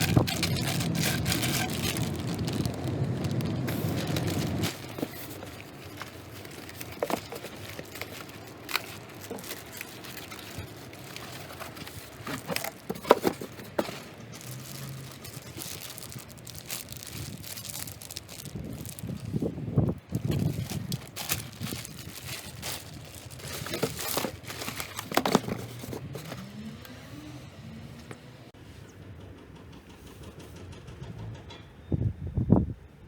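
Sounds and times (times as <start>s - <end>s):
packaging crinkling: 0.0s - 26.6s.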